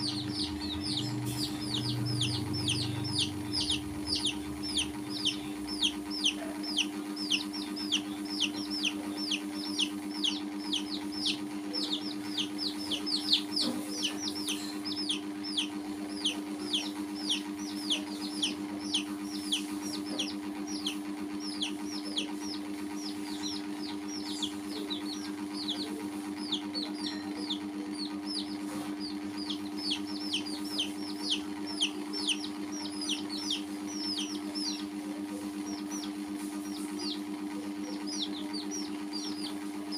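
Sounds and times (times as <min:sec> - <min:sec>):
baby chicks peeping: 0:00.0 - 0:39.9
steady low hum: 0:00.0 - 0:39.9.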